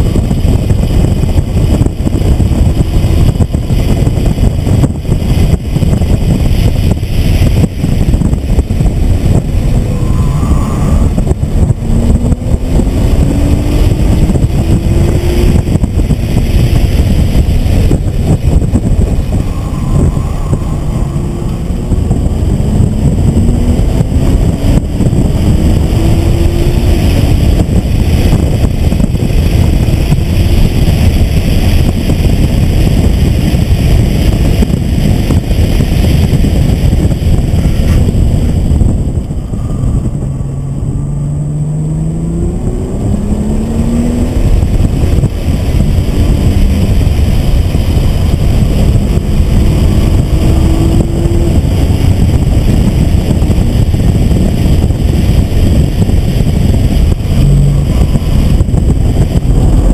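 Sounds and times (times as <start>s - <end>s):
car engine rumble inside cabin: 0.0s - 59.9s
road and wind noise: 0.0s - 59.9s.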